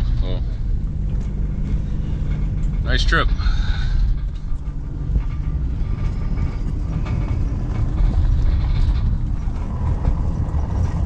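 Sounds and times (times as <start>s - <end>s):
faint clicks and rattles: 0.0s - 11.0s
van road rumble on dirt road: 0.0s - 11.0s.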